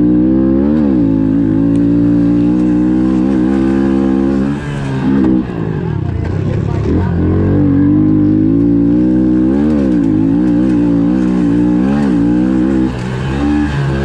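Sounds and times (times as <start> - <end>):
motorcycle engine revving hard: 0.0 - 14.0.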